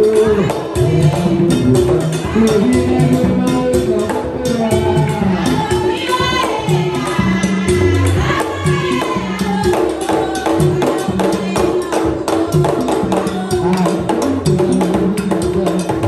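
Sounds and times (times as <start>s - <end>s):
hand drums beating: 0.0s - 16.0s
person singing: 0.0s - 16.0s.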